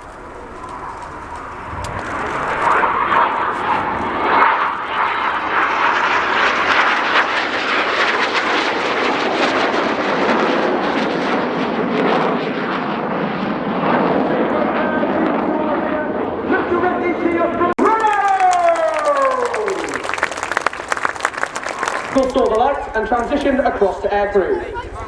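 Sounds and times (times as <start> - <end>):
jets flying past: 0.0 - 17.6, 18.9 - 25.0.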